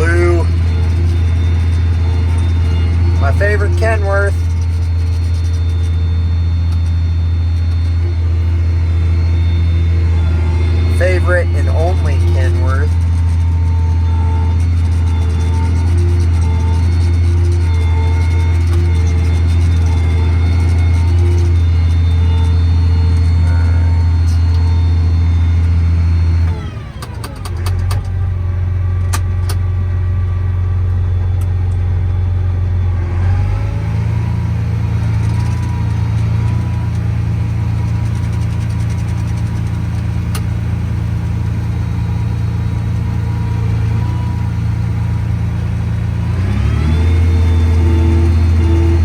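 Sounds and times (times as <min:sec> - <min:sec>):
combine harvester engine hum: 0:00.0 - 0:49.0.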